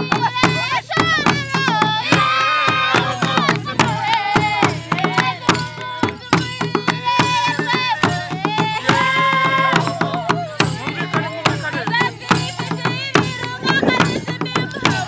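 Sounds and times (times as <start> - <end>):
sharp percussion strokes: 0.0 - 15.0
voices singing held notes: 0.0 - 15.0.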